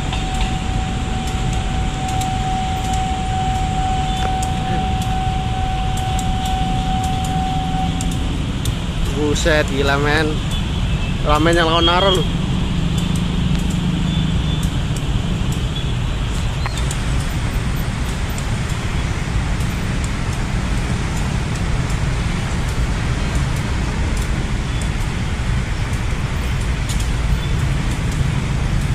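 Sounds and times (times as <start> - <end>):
motorcycle and car traffic: 0.0 - 28.9.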